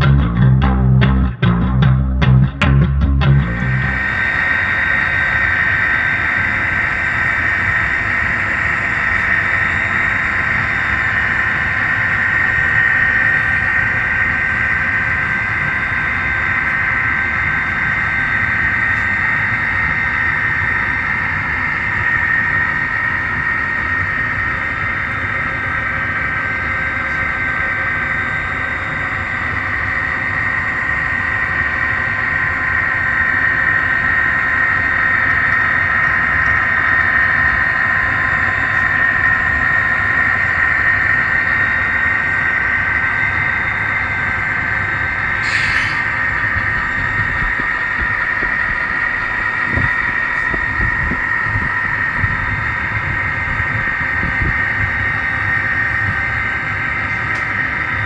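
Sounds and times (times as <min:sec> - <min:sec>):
wheels rumbling on rail: 0:00.0 - 0:58.0
model train motor whine: 0:03.4 - 0:58.0.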